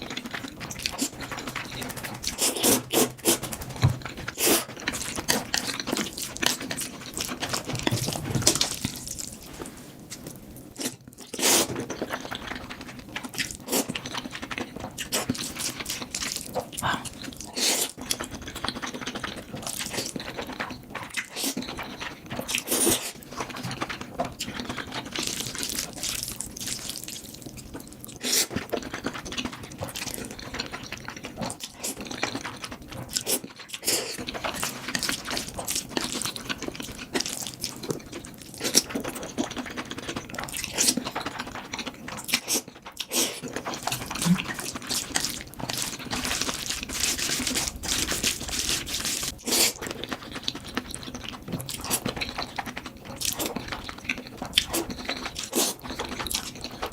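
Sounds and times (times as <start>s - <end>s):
wet slurping and chewing: 0.0s - 56.9s.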